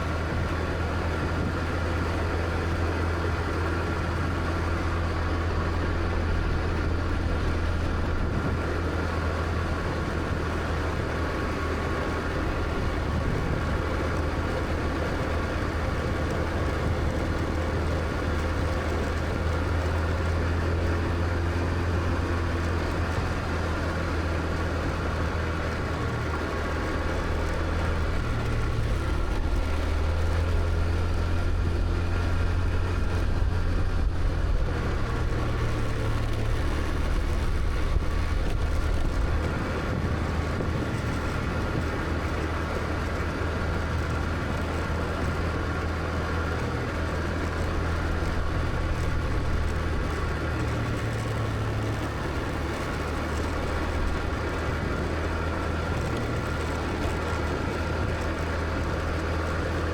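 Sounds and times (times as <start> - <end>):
motor scooter engine running: 0.0 - 59.9
road noise: 0.0 - 59.9.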